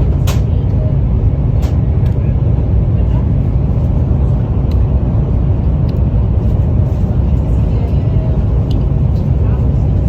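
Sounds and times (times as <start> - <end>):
train rumbling inside passenger car: 0.0 - 10.0.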